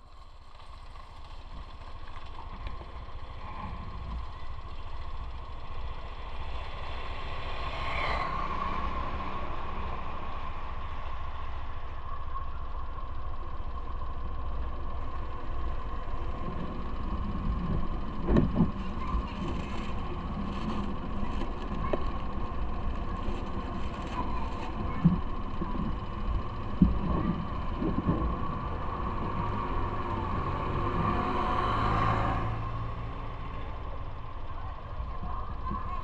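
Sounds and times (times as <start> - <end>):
motorbike engine rumbling: 0.0 - 36.0.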